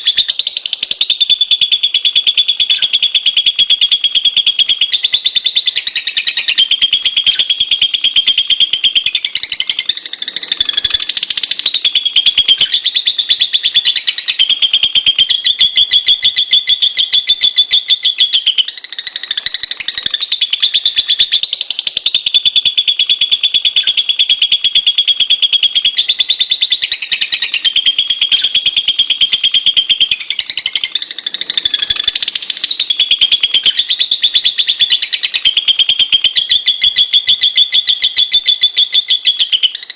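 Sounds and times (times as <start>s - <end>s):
lovebird shrill chattering trill: 0.0s - 39.9s.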